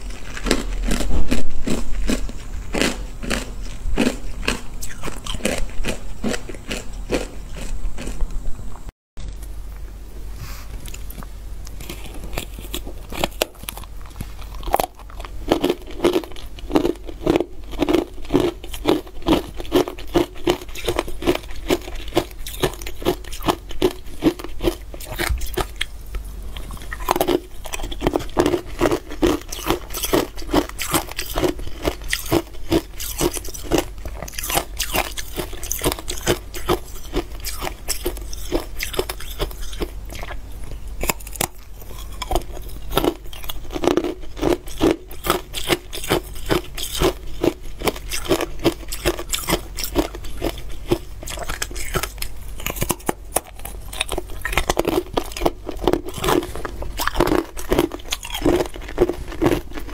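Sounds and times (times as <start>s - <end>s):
ice crunching and chewing: 0.0s - 8.3s, 10.8s - 59.9s.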